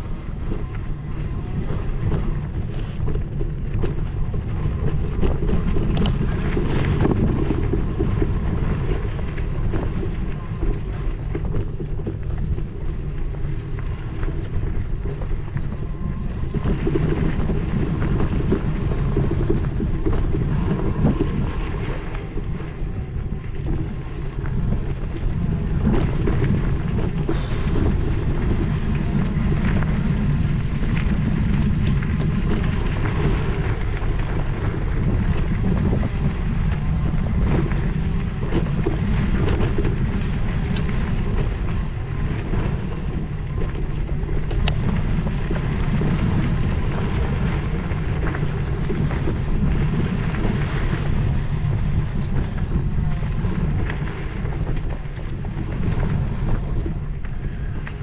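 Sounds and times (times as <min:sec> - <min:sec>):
small rattles and clicks: 0:00.0 - 0:58.0
wind buffeting microphone: 0:00.0 - 0:58.0.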